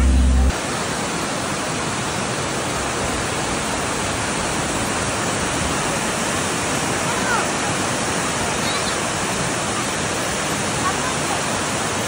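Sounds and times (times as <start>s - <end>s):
waterfall cascading over rocks: 0.0s - 12.0s.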